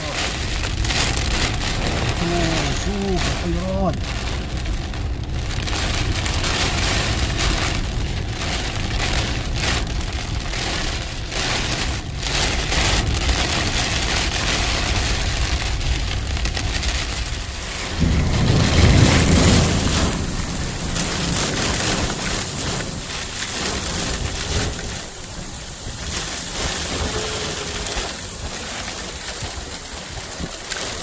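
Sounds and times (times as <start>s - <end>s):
heavy rain hissing: 0.0s - 31.0s
low rumble: 0.1s - 28.6s.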